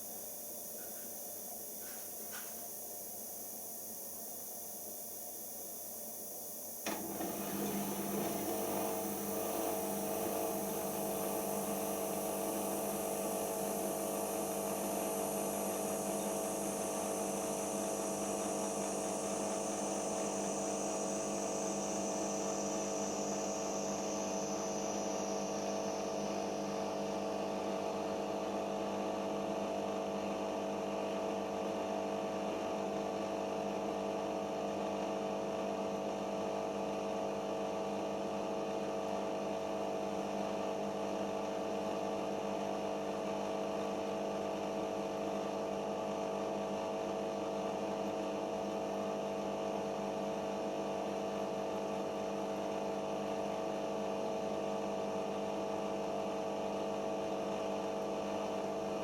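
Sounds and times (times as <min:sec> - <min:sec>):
washing machine motor hum: 0:00.0 - 0:31.0, 0:35.4 - 0:59.0.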